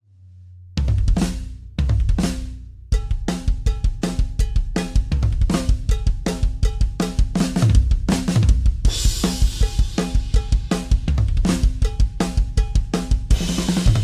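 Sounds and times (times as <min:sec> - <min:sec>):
accented drum hits with cymbals: 0:00.8 - 0:14.0
drum kit groove: 0:00.8 - 0:14.0.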